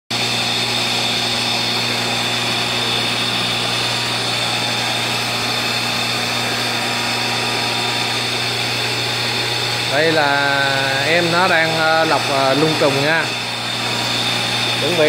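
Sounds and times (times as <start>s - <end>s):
electric motor humming: 0.1s - 15.0s.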